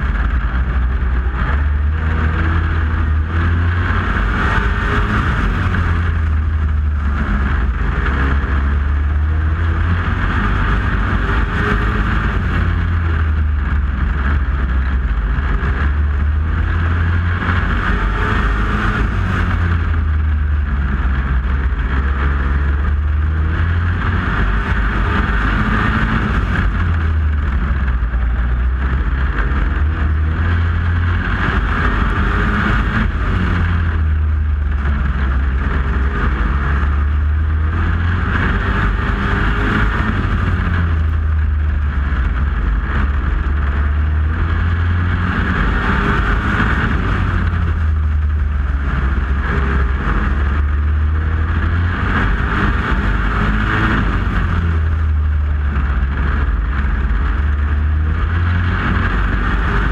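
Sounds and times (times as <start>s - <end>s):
truck engine running loud: 0.0s - 59.9s.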